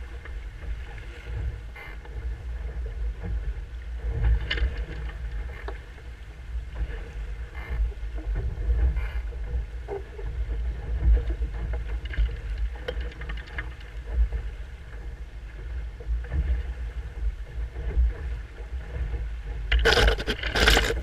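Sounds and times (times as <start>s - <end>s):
constant low rumble: 0.0s - 21.0s
water rushing along hull: 0.0s - 21.0s.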